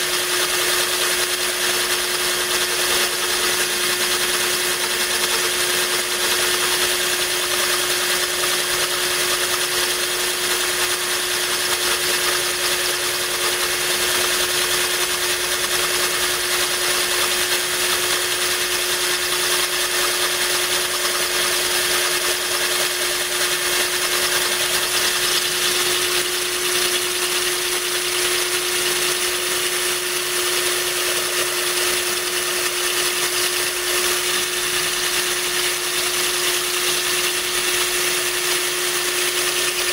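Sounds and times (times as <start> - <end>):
drill motor whine: 0.0 - 39.9.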